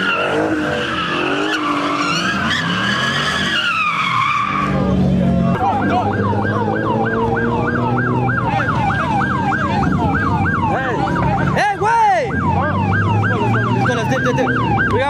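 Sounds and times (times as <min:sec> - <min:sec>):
police siren yelping: 0:00.0 - 0:15.0
rising and falling siren tones: 0:00.0 - 0:15.0.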